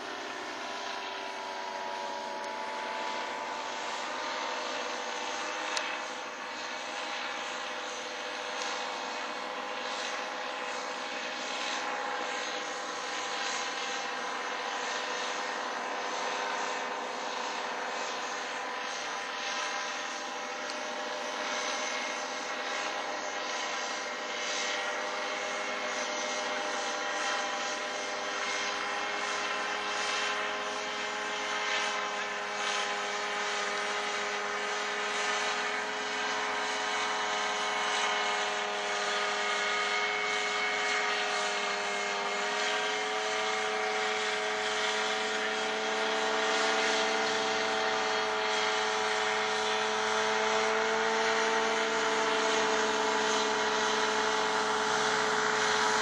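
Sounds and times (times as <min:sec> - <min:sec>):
paramotor engine droning: 0:00.0 - 0:56.0.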